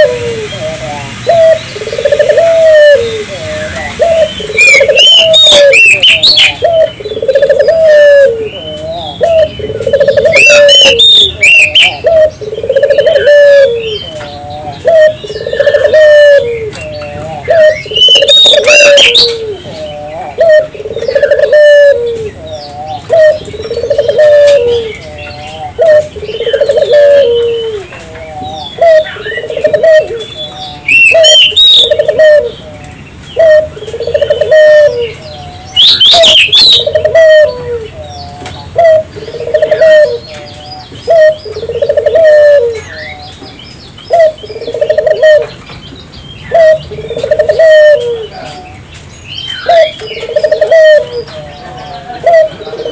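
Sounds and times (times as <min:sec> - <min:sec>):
dove cooing: 0:00.0 - 0:43.3, 0:44.1 - 0:45.6, 0:46.5 - 0:48.8, 0:49.5 - 0:52.9
small birds chirping: 0:00.0 - 0:52.9.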